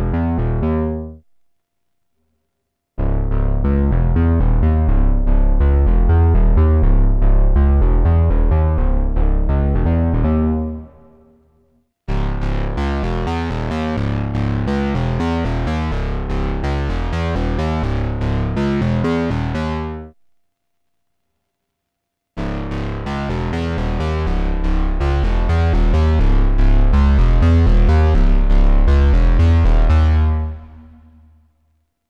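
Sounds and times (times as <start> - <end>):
synthesizer bass notes: 0.0 - 1.2, 3.0 - 11.4, 12.1 - 20.2, 22.4 - 31.4.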